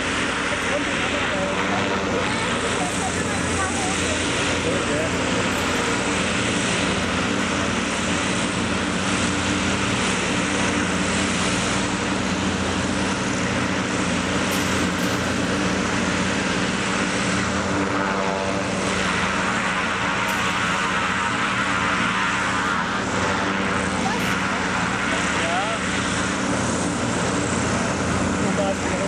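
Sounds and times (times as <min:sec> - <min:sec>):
airship engines and propellers droning: 0:00.0 - 0:29.0.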